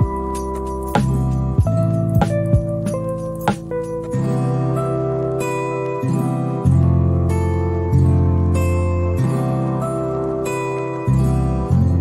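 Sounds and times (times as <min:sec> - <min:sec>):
soft acoustic guitar chords: 0:00.0 - 0:12.0.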